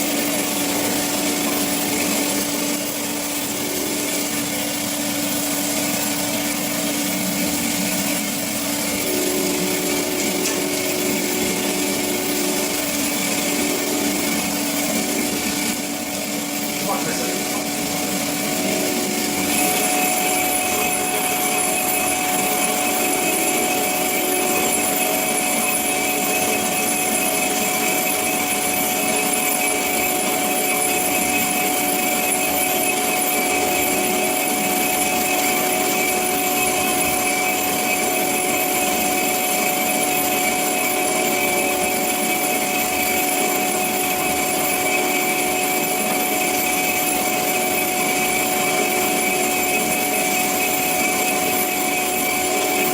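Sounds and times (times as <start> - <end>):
band saw cutting metal: 0.0 - 52.9.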